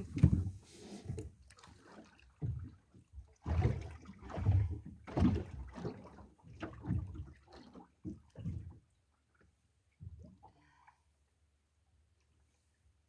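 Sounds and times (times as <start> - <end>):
water splashing against boat: 0.0 - 10.9.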